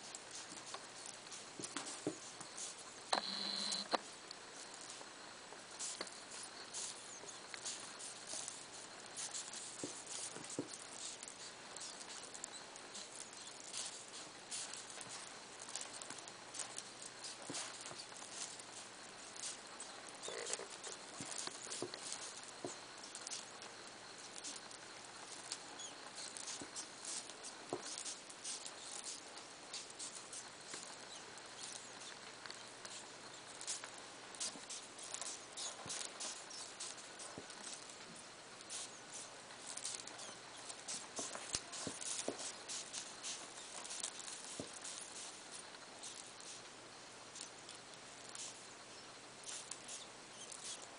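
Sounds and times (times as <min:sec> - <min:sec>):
hedgehogs clicking and rustling: 0:00.0 - 0:50.9
steady hiss: 0:00.0 - 0:50.9.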